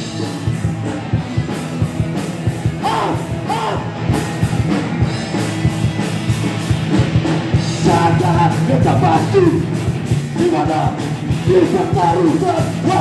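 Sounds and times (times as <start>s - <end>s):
punk rock band playing: 0.0s - 13.0s.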